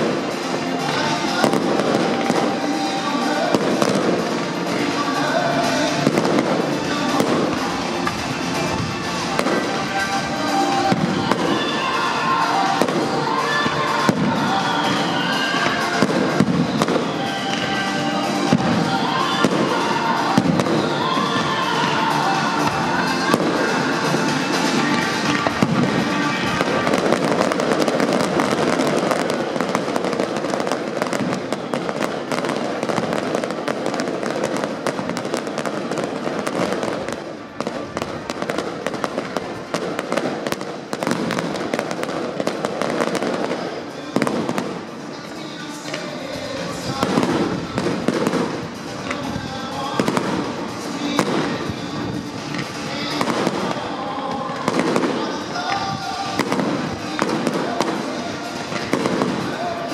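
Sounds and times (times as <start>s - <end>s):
fireworks bangs: 0.0s - 59.9s
fireworks crackle: 0.0s - 59.9s
music playing: 0.0s - 59.9s.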